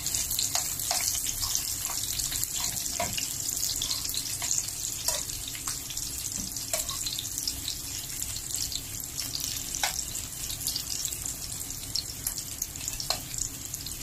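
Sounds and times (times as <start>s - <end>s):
oil sizzling in frying pan: 0.0s - 14.0s.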